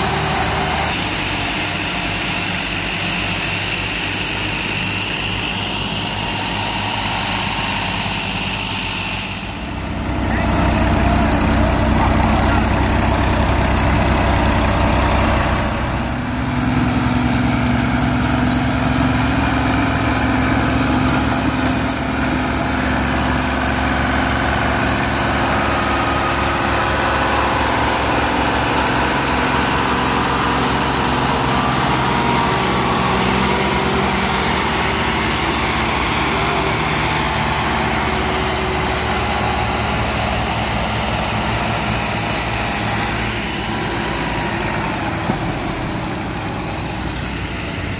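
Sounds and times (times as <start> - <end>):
tractor diesel engines under load: 0.0 - 47.9.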